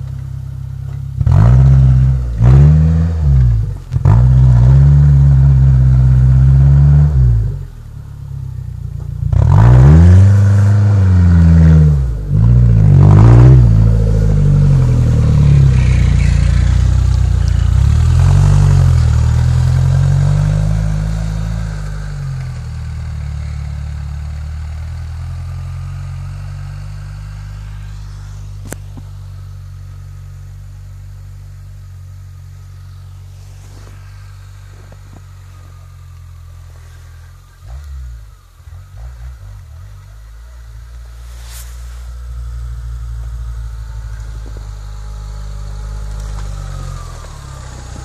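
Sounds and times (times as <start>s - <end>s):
car engine running at low revs: 0.0s - 48.0s.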